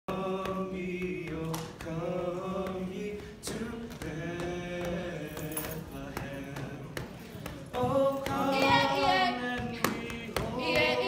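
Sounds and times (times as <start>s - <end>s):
group singing unaccompanied: 0.1s - 11.0s.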